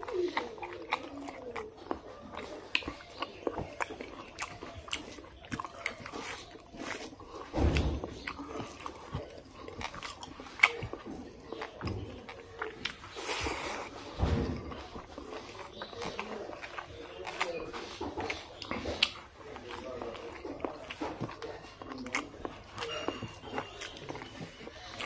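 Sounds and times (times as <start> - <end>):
man chewing with mouth clicks: 0.0 - 25.0.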